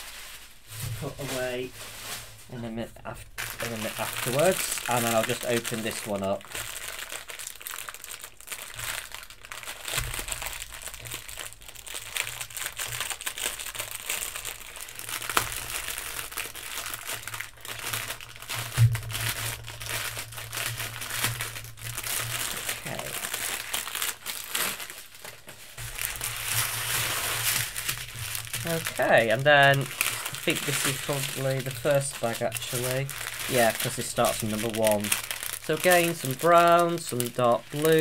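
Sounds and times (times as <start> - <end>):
plastic wrap crinkling: 0.0 - 38.0.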